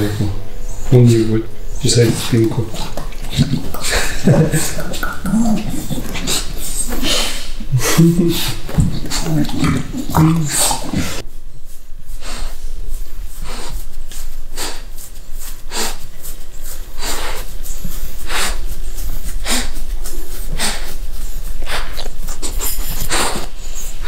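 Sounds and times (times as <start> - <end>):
dog snorting: 0.0 - 11.2, 13.3 - 24.0
dog breathing noisily: 0.0 - 11.3, 12.0 - 24.0.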